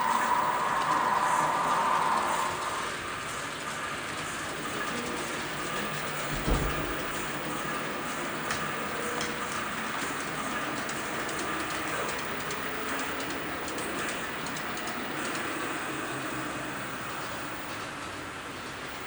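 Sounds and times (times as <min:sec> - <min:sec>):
model train wheels on track: 0:00.0 - 0:19.0.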